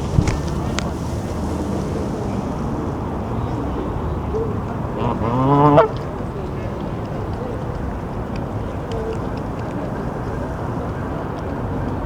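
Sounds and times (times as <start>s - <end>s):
city background noise: 0.0s - 12.0s.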